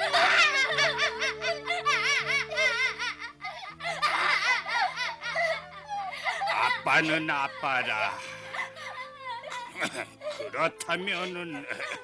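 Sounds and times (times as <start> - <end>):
girl sobbing: 0.0 - 12.0
soft background music: 0.0 - 12.0.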